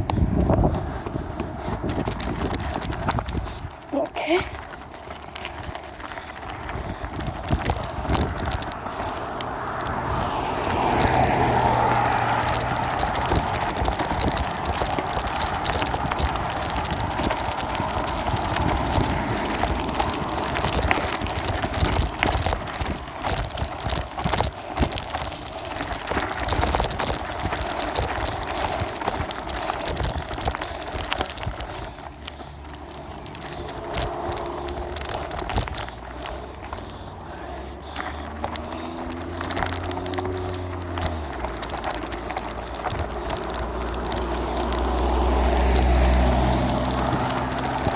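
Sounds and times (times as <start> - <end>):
bicycle clattering and rattling: 0.0 - 47.9
steady rushing noise: 0.0 - 47.9.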